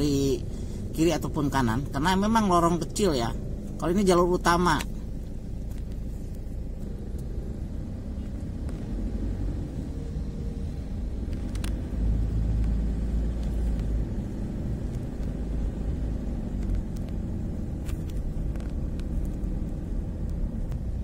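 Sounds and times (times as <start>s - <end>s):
car driving rumble inside cabin: 0.0s - 21.0s.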